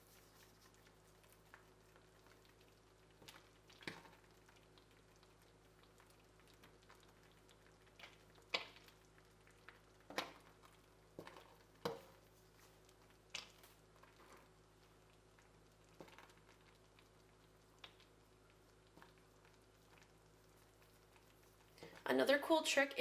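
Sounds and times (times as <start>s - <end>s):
wet squishes and small pops: 0.0s - 22.1s.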